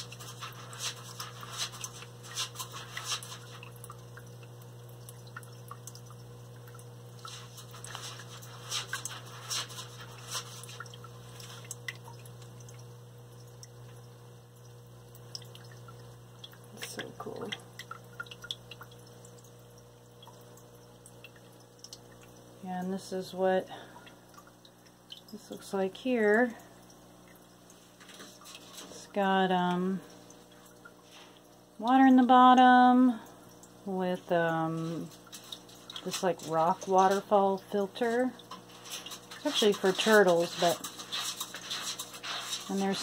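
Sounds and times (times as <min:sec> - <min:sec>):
water dripping and trickling: 0:00.0 - 0:43.0.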